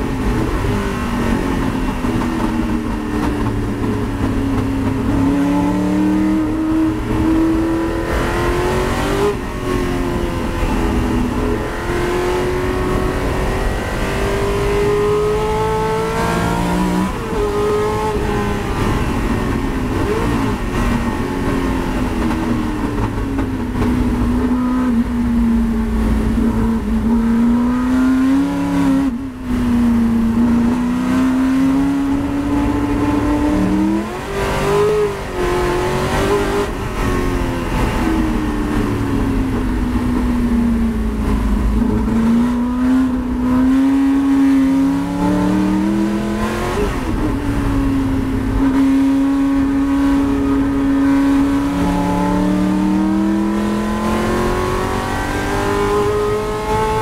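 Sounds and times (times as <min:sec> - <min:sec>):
low road rumble: 0:00.0 - 0:57.0
racing car engine revving: 0:00.0 - 0:57.0.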